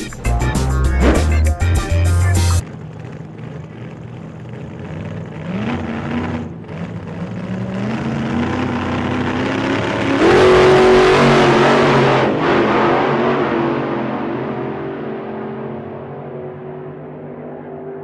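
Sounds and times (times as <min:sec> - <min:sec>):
motorcycle engine accelerating: 0:00.0 - 0:14.8.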